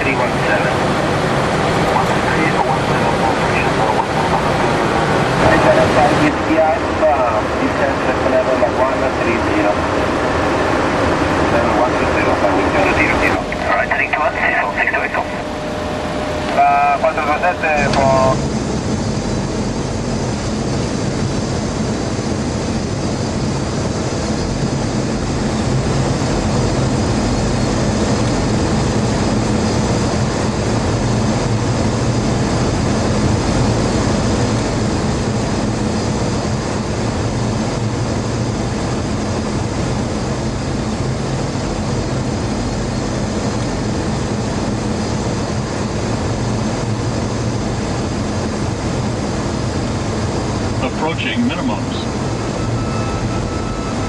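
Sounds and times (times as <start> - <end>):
low hum: 0.0 - 45.2, 45.9 - 54.0.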